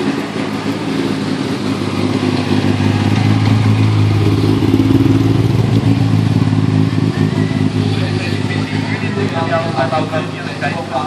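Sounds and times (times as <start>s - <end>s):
race car engines running slowly: 0.0s - 11.0s.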